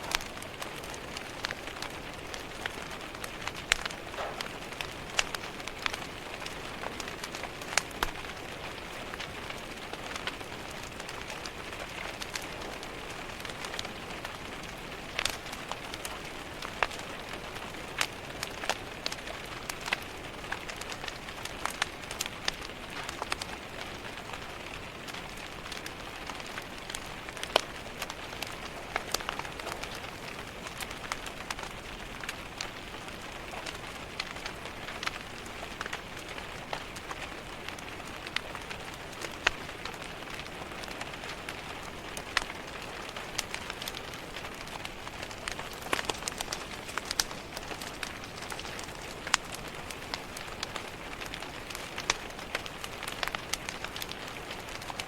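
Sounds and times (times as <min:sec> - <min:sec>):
fire crackling and popping: 0:00.0 - 0:55.0
rain against a window: 0:00.0 - 0:55.0.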